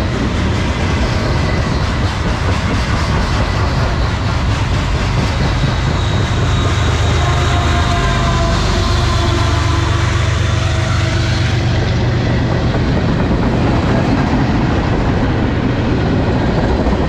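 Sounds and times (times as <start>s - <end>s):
diesel locomotive engine drone: 0.0s - 17.0s
train wheels clattering on rails: 0.0s - 17.0s.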